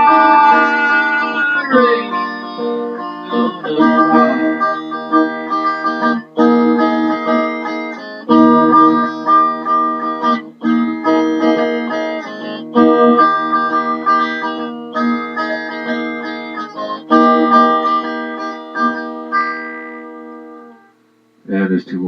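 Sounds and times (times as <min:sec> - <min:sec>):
electric guitar chords ringing: 0:00.0 - 0:21.0.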